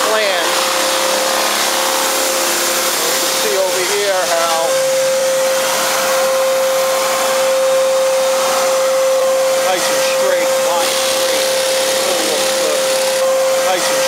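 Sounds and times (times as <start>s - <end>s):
power sander whining: 0.0s - 14.0s.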